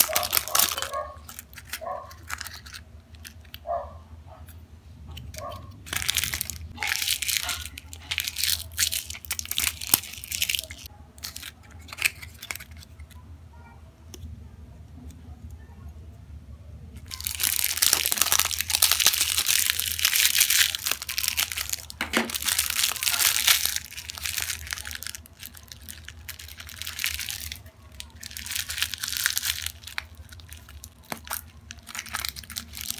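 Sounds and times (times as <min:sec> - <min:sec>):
cellophane wrapper crinkling: 0:00.0 - 0:03.7, 0:05.1 - 0:13.2, 0:17.0 - 0:32.9.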